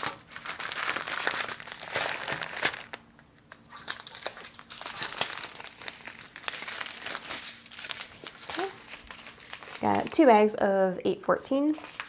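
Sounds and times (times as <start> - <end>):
plastic bags crinkling: 0.0 - 10.5, 11.5 - 12.0.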